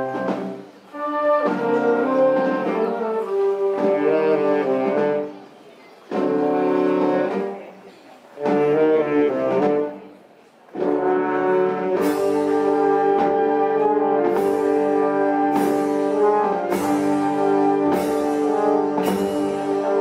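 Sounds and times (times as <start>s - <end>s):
marching wind band chords: 0.0s - 5.5s, 6.1s - 7.8s, 8.4s - 20.0s.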